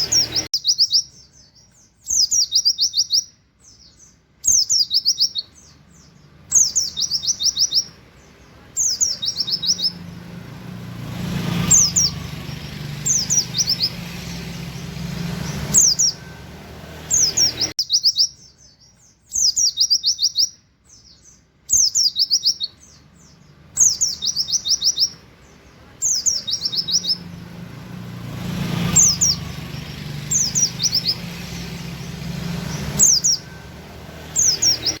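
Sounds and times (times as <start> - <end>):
bird singing whistled notes: 0.0 - 10.3, 11.5 - 25.3, 26.0 - 27.6, 28.7 - 35.0.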